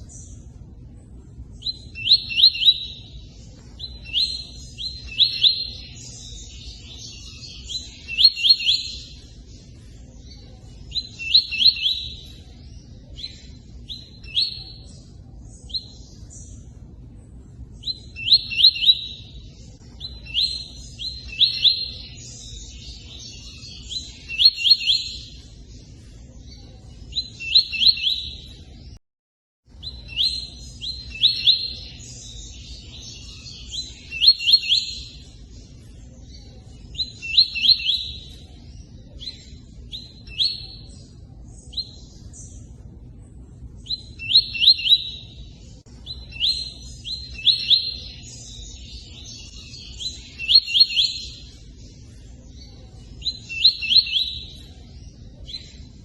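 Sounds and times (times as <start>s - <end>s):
songbird singing short phrases: 0.0s - 29.0s, 29.7s - 56.0s.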